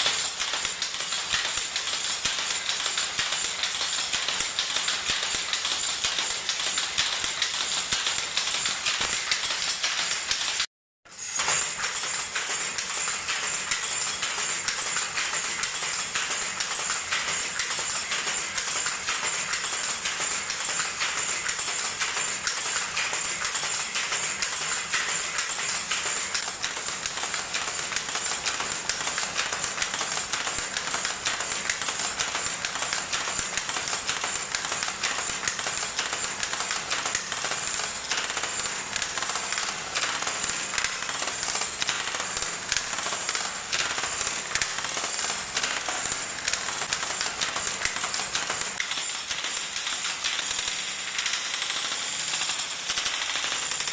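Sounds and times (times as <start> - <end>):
loom clattering: 0.0 - 53.9.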